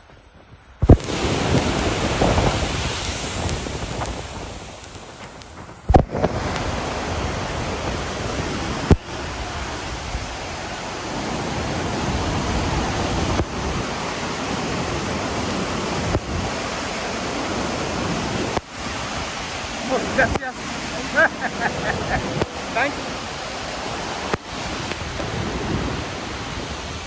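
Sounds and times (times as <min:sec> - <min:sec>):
waterfall roaring: 0:00.8 - 0:27.0.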